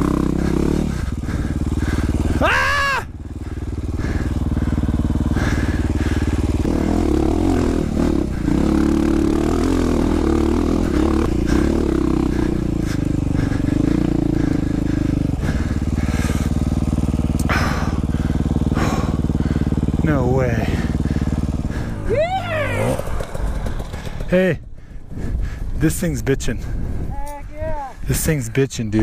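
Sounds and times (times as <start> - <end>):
dirt bike engine climbing: 0.0 - 29.0.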